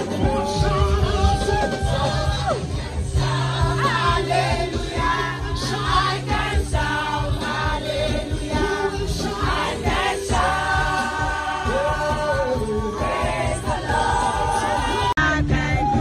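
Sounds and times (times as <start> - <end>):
crowd singing: 0.0 - 16.0
music with heavy bass beat: 0.0 - 16.0.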